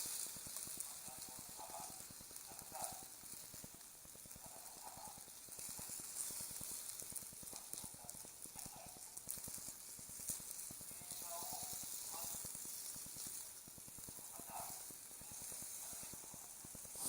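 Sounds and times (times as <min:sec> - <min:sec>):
burning paper crackling: 0:00.0 - 0:17.0
soft fire hiss: 0:00.0 - 0:17.0.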